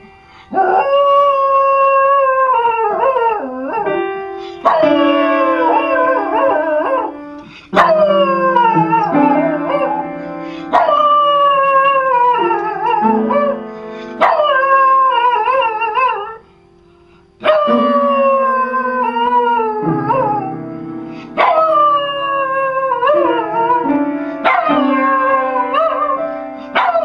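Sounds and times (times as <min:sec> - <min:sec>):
low piano notes: 0:00.0 - 0:27.0
small dog howling: 0:00.5 - 0:04.0, 0:04.6 - 0:07.1, 0:07.8 - 0:10.1, 0:10.7 - 0:13.6, 0:14.2 - 0:16.4, 0:17.4 - 0:20.5, 0:21.4 - 0:27.0.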